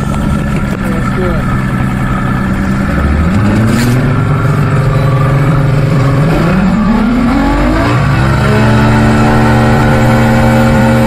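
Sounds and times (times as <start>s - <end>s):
outboard motor accelerating: 0.0s - 11.0s.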